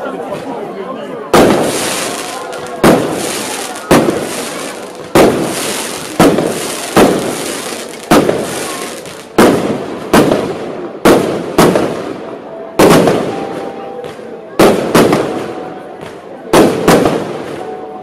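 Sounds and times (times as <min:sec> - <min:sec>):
firework bangs: 0:01.3 - 0:13.4, 0:14.0 - 0:17.7.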